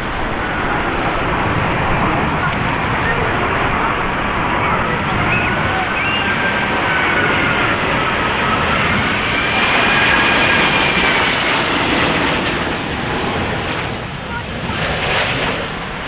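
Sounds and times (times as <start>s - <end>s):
jet engines roaring and whining: 0.0s - 16.0s.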